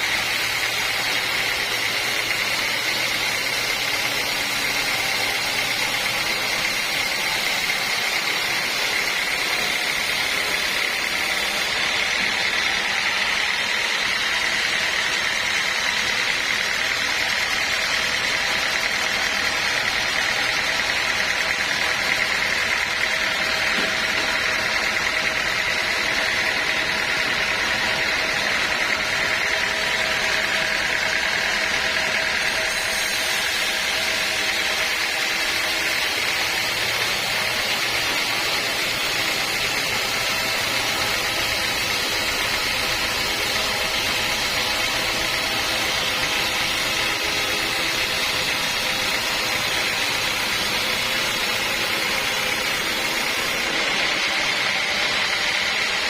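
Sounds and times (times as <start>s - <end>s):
sawmill machinery drone: 0.0s - 56.0s.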